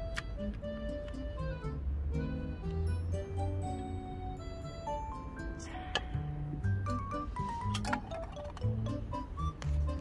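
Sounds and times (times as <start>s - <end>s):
light melody over bass: 0.0s - 10.0s.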